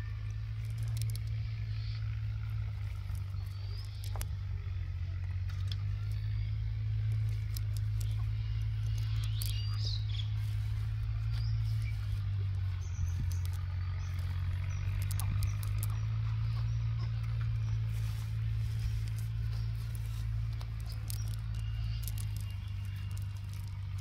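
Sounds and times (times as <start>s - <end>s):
bird chirps: 0.0s - 24.0s
engine humming: 0.0s - 24.0s
light clicks: 0.2s - 4.5s, 5.4s - 24.0s.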